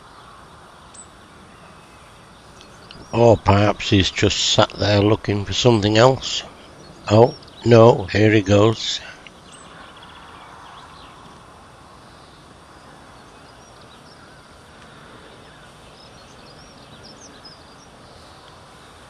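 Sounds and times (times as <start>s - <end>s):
faint bird chirps: 0.0s - 11.4s, 12.0s - 19.0s
outdoor background noise: 0.0s - 19.0s.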